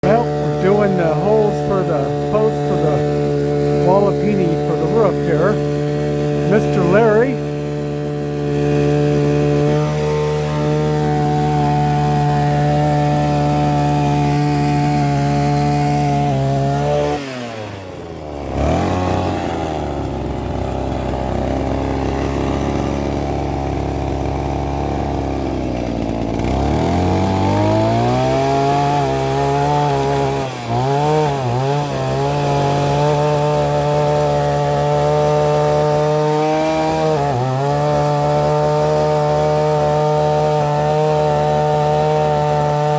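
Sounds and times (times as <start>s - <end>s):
post-hole auger engine: 0.0s - 42.9s.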